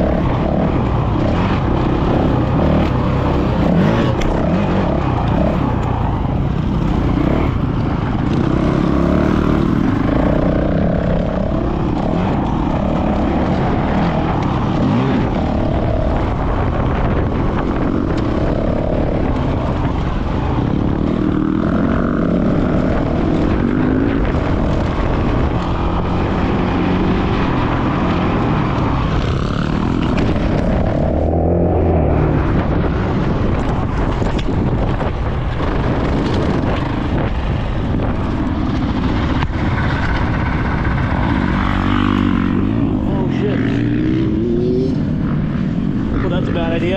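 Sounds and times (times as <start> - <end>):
dirt bike engine revving: 0.0 - 46.9
wind rumble on microphone: 0.0 - 46.9.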